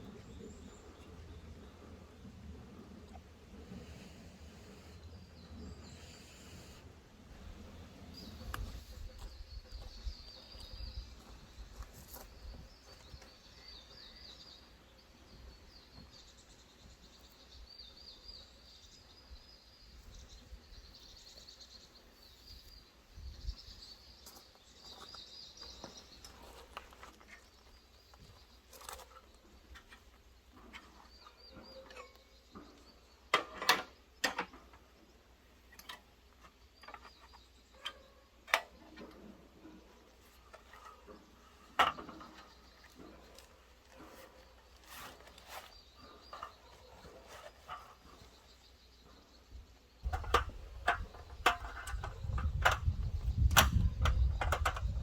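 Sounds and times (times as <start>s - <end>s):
birds chirping trills: 0.0s - 55.0s.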